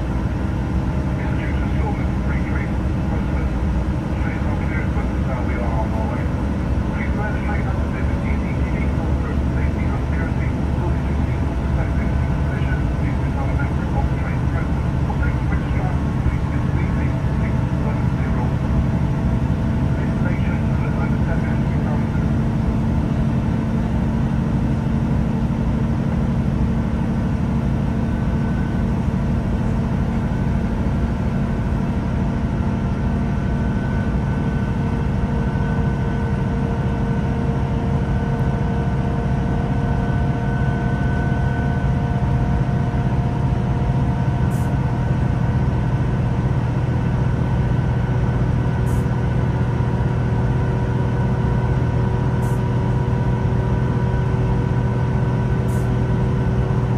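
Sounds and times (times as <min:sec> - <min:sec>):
train diesel engine droning: 0:00.0 - 0:56.9.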